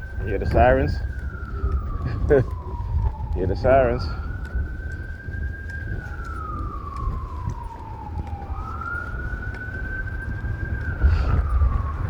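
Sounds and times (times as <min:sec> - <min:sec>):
emergency siren wailing: 0:00.0 - 0:12.0
steady low rumble: 0:00.0 - 0:12.0.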